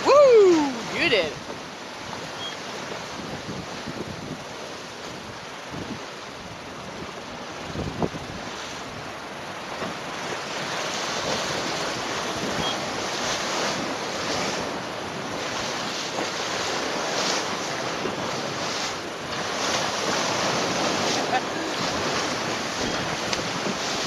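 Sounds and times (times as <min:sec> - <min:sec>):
water rushing along hull: 0:00.0 - 0:24.0
wind buffeting microphone: 0:00.0 - 0:24.0.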